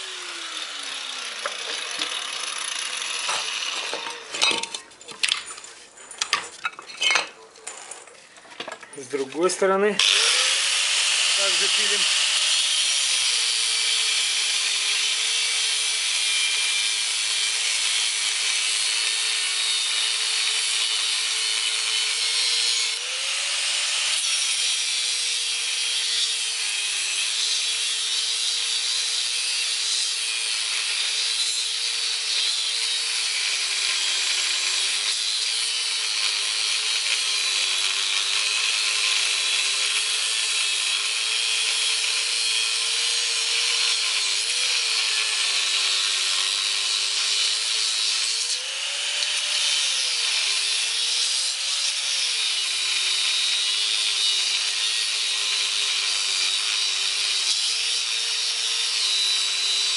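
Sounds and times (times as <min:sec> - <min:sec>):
angle grinder cutting metal: 0:00.0 - 0:07.4, 0:08.9 - 0:59.9.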